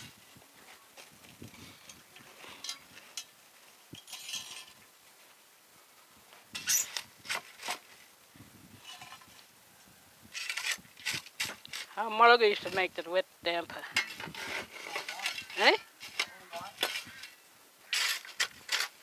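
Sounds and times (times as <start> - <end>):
shovel scraping coals: 0.0 - 4.9, 6.5 - 9.5, 10.3 - 13.0, 13.8 - 19.0.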